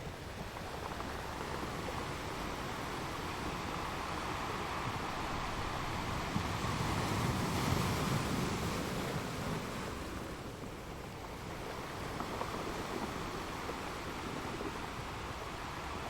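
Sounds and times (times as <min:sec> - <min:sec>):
ocean waves breaking on shore: 0:01.8 - 0:16.0.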